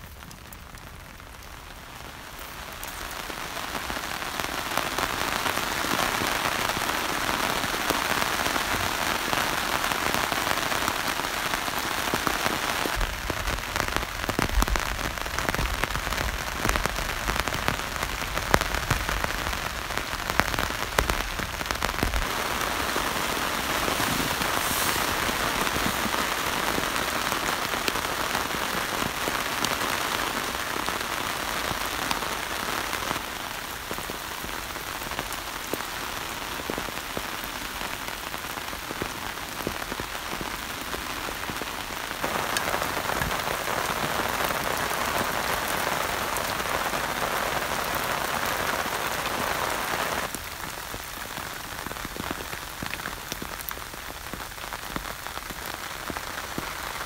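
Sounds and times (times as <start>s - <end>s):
rain on a canvas tarp: 0.0s - 57.0s.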